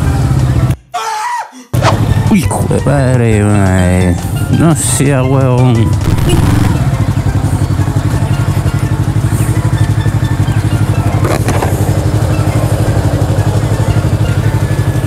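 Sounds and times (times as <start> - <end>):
motorcycle engine running: 0.0 - 0.8, 1.8 - 15.0.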